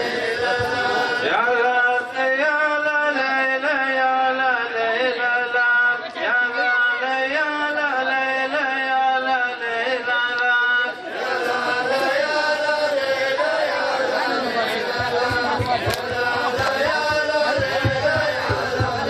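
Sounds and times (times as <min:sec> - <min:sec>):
man chanting wordless melody: 0:00.0 - 0:11.1, 0:11.7 - 0:19.0.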